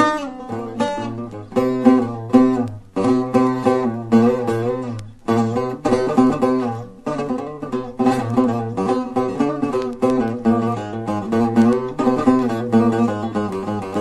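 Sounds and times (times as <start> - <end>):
plucked lute solo: 0.0 - 14.0.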